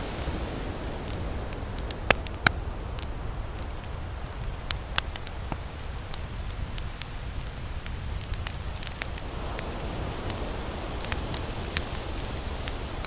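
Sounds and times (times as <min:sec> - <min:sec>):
campfire crackling: 0:00.0 - 0:13.0
sharp pops of fire: 0:00.9 - 0:13.0.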